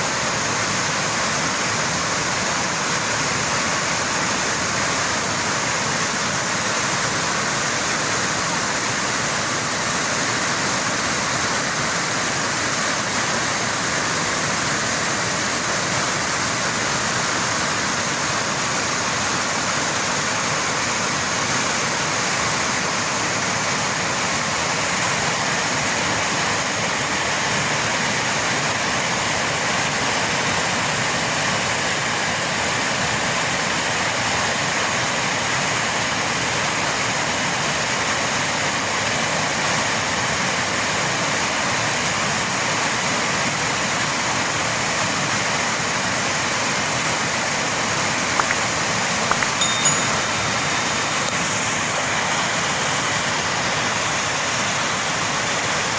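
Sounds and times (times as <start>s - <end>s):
floodwater rushing: 0.0s - 55.9s.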